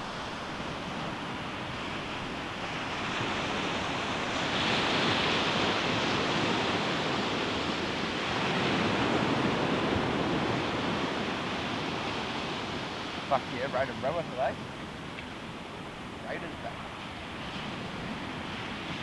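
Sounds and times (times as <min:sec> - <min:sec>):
ocean waves breaking on a beach: 0:00.0 - 0:19.0.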